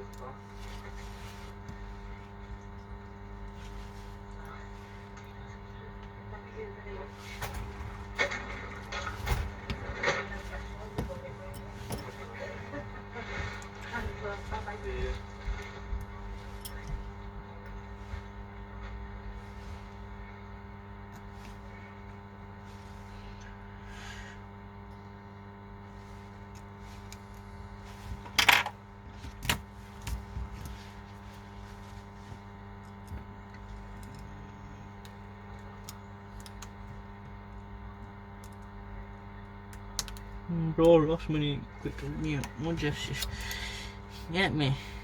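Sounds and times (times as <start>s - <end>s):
electrical hum: 0.0s - 45.0s.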